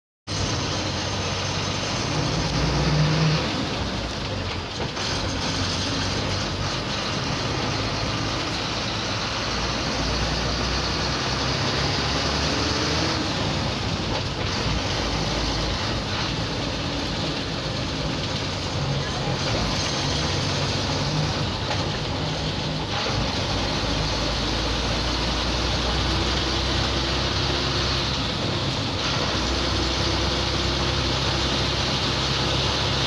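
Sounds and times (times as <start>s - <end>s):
bus engine rumble: 0.3s - 33.0s
road noise: 0.3s - 33.0s.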